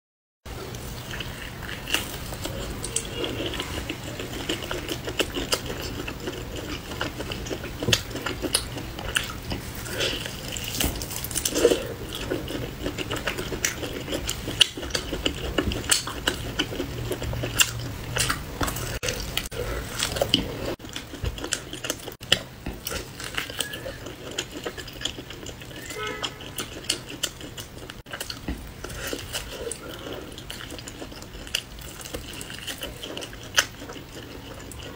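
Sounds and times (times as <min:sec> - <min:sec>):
biting and chewing: 0:00.5 - 0:34.9.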